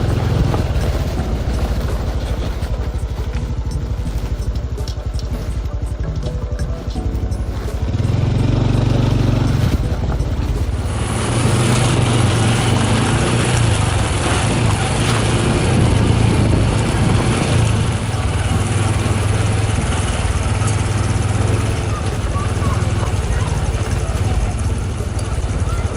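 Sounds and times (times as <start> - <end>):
motorcycle engine running: 0.0 - 25.9
wind and road noise: 0.0 - 25.9.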